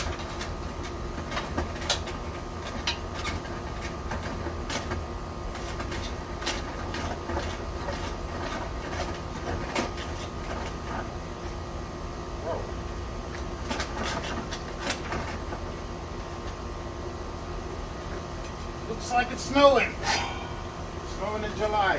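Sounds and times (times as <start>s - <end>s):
steady machine hum: 0.0s - 21.9s.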